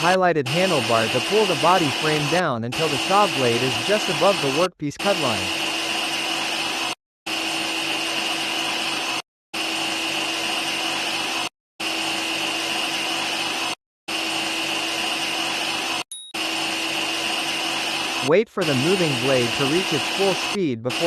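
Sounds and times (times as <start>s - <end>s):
bandsaw whirring with high whine: 0.0s - 21.0s.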